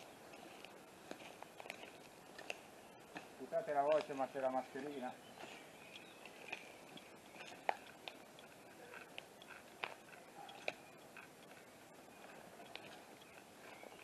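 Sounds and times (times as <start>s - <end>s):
footsteps crunching over dry leaves: 0.0s - 14.0s
twigs cracking underfoot: 0.0s - 14.0s.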